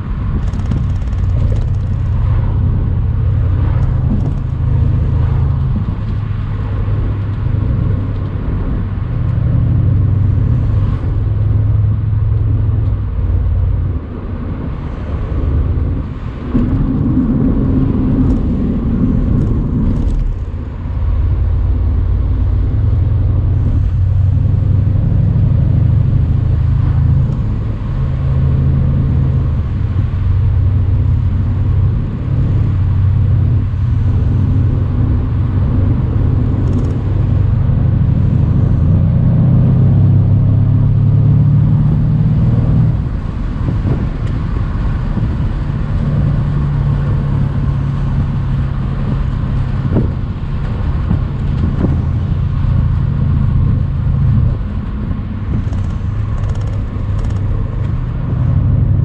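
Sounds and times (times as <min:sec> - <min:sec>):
car engine pulling: 0:00.0 - 0:59.0.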